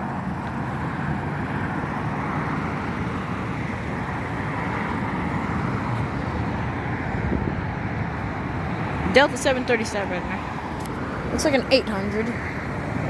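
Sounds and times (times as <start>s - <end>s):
distant engine roar: 0.0s - 13.0s.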